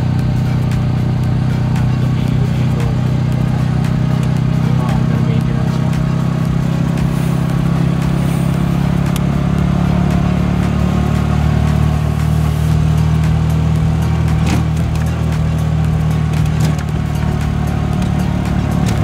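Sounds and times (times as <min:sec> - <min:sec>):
road noise: 0:00.0 - 0:19.0
three-wheeler engine running: 0:00.0 - 0:19.0.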